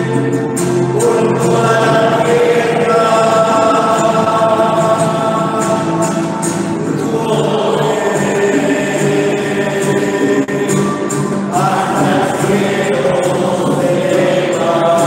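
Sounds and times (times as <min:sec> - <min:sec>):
person singing a hymn: 0:00.0 - 0:15.0
strummed classical guitar: 0:00.0 - 0:15.0.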